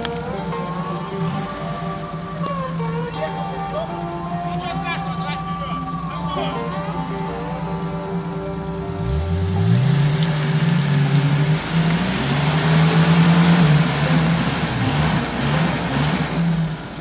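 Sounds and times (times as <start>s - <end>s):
engine revving hard: 0.0s - 17.0s
wheels churning mud: 0.0s - 17.0s.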